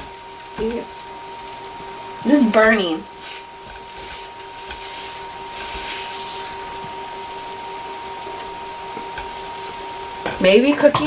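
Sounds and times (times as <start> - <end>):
batter sizzling in a frying pan: 0.0 - 11.0
electrical hum: 0.0 - 11.0.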